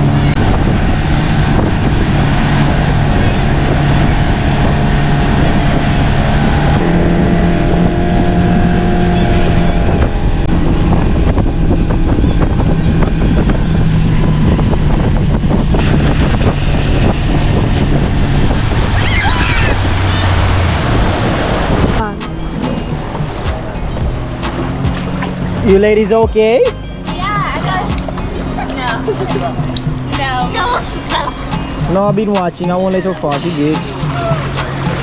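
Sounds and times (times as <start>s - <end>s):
motorboat engine running: 0.0s - 35.0s
wind buffeting microphone: 0.0s - 35.0s.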